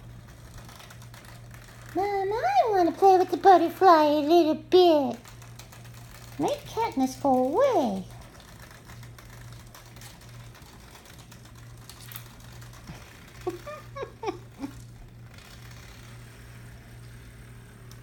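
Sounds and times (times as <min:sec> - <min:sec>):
small toy motor whirring: 0:00.0 - 0:18.0.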